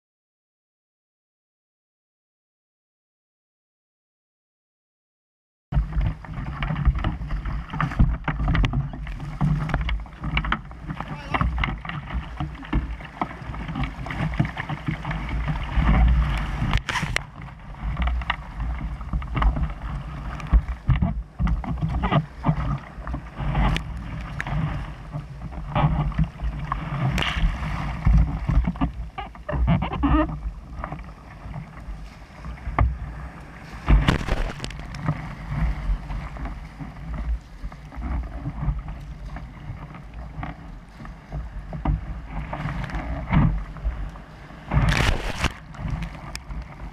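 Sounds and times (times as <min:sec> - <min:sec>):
surf rushing: 0:05.8 - 0:29.0, 0:30.3 - 0:46.9
paddle splashes: 0:05.8 - 0:46.9
water hitting kayak hull: 0:05.8 - 0:46.9.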